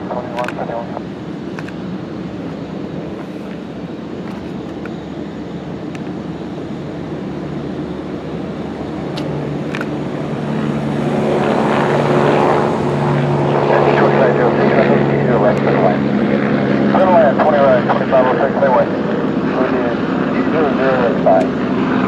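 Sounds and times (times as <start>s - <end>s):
aircraft engine noise: 0.0s - 22.0s.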